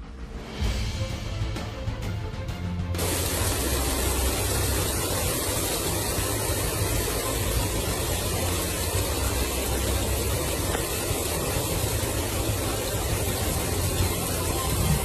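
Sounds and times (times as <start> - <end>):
heavy rain falling: 3.0 - 15.0.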